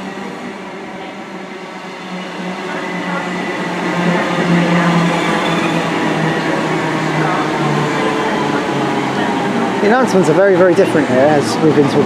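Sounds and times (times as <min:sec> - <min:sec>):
electric locomotive hum: 0:00.0 - 0:12.0.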